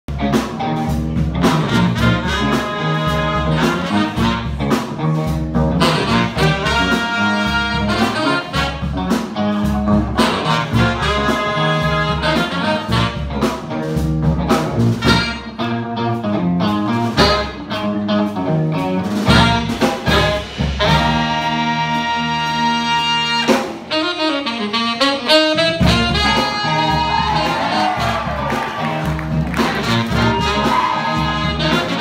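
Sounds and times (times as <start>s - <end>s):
jazz-funk band playing: 0.1s - 32.0s.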